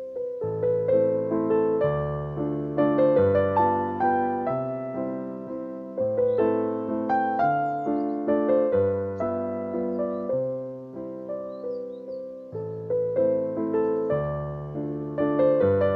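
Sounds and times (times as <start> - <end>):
gentle piano melody: 0.0 - 15.9.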